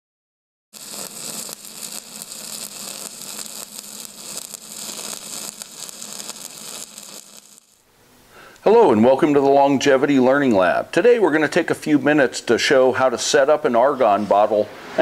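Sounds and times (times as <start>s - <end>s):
crackling static hiss: 0.8s - 13.7s.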